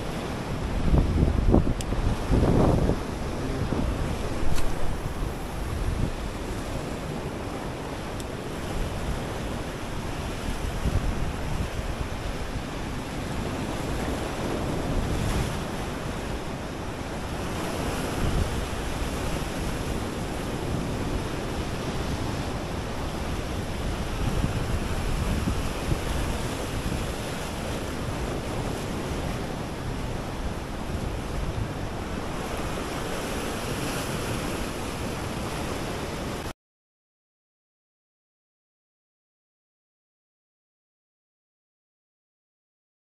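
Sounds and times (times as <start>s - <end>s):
sea surf washing onto beach: 0.0s - 36.5s
wind buffeting microphone: 0.0s - 36.5s.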